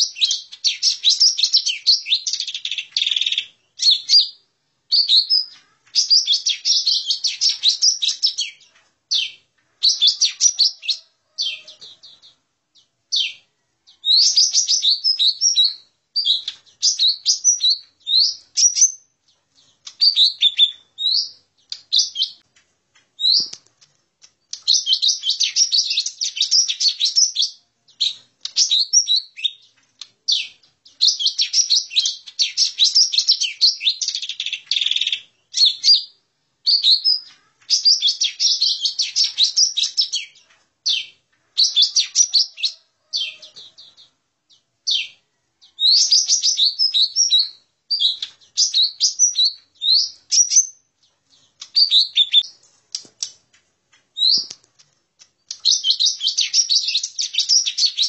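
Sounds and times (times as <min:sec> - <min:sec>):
bird chattering and whistling: 0:00.0 - 0:12.4, 0:13.1 - 0:19.0, 0:19.7 - 0:22.4, 0:23.2 - 0:23.7, 0:24.3 - 0:44.1, 0:44.9 - 0:50.8, 0:51.6 - 0:53.4, 0:54.2 - 0:54.6, 0:55.2 - 0:58.0.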